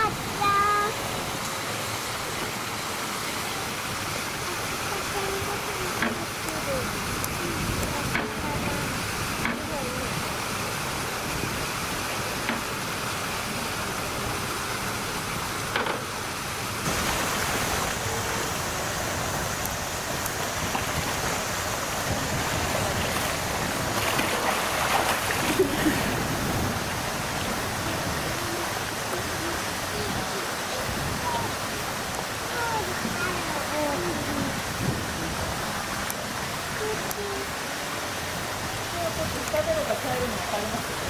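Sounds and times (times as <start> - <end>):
pool water splashing: 0.0 - 41.0.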